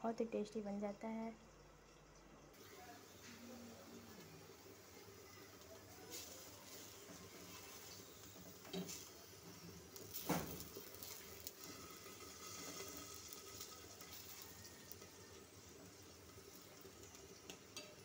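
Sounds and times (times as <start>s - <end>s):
flatbread frying on pan: 2.5s - 18.0s.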